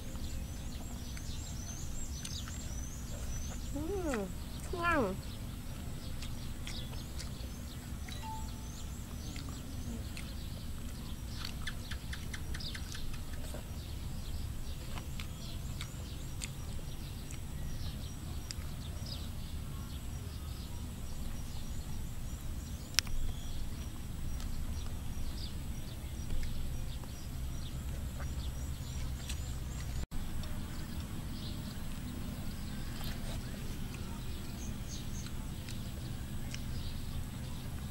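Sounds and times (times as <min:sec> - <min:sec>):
small birds chirping: 0:00.0 - 0:37.9
steady low rumble: 0:00.0 - 0:37.9.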